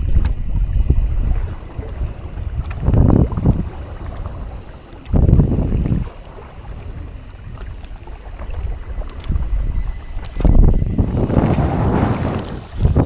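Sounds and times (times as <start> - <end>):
water washing along hull: 0.0 - 13.0
wind buffeting microphone: 0.0 - 13.0.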